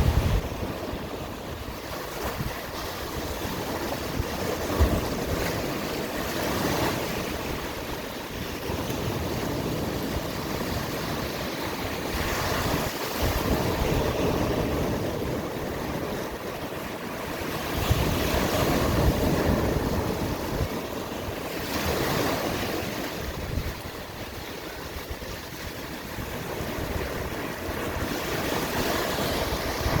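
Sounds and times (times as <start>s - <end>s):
waves breaking: 0.0s - 30.0s
wind buffeting microphone: 0.0s - 30.0s.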